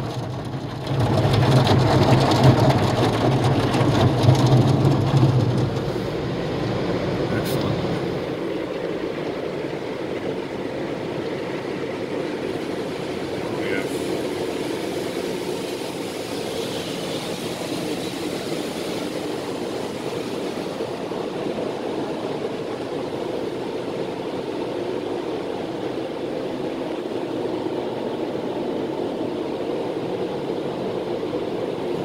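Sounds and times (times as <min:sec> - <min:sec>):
car wash machinery running: 0:00.0 - 0:32.0
water spraying on car: 0:00.0 - 0:32.0.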